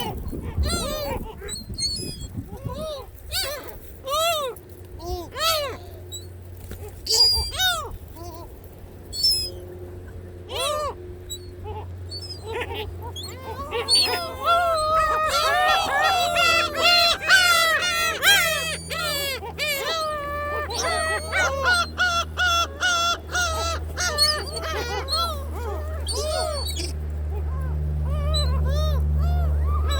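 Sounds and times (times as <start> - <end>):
gulls calling: 0.0 - 29.9.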